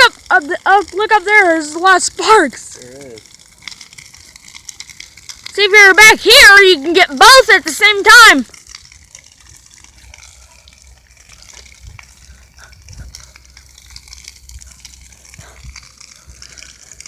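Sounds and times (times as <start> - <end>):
faint pops of fire: 0.0 - 17.0
fire burning with hiss: 0.0 - 17.0.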